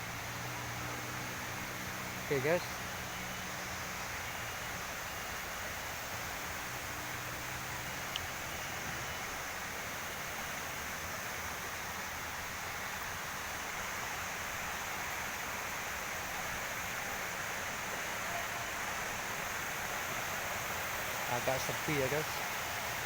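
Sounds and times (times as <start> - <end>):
waterfall rushing: 0.0 - 3.0, 4.7 - 23.0.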